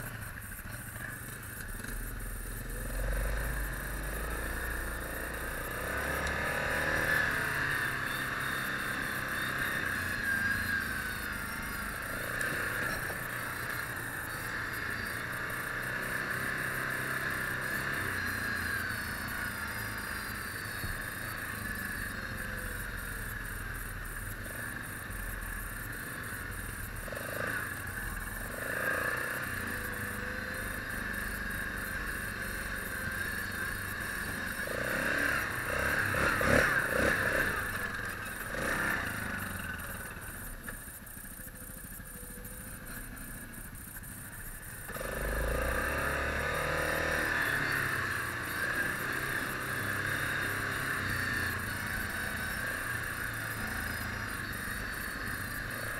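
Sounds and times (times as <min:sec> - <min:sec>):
atv rattling over ground: 0:00.0 - 0:22.8, 0:25.8 - 0:55.9
atv engine running: 0:00.0 - 0:55.9.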